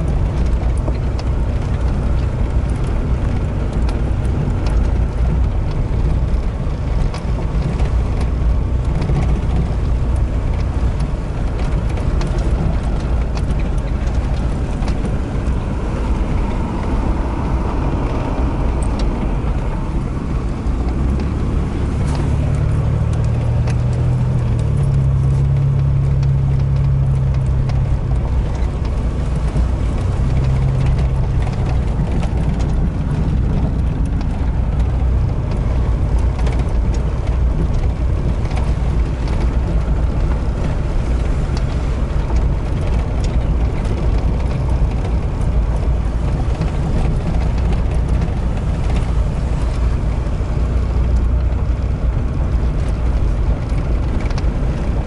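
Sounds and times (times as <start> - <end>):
light rattles: 0.0 - 55.0
truck engine and tyre rumble: 0.0 - 55.0.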